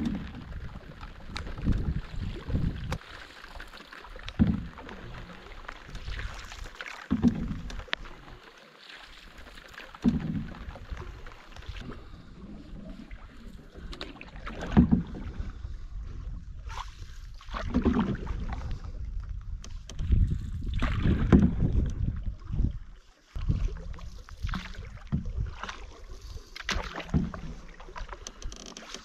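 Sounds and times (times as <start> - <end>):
paddle splashing through water: 0.0 - 29.0.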